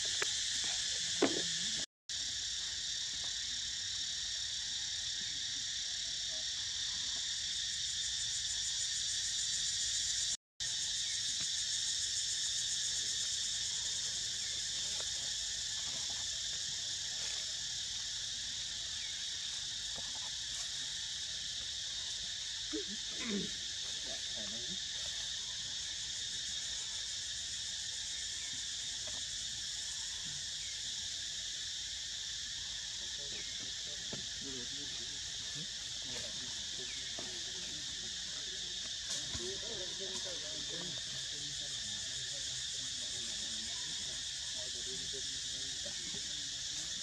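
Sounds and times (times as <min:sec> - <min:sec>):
insects shrilling: 0:07.2 - 0:47.0.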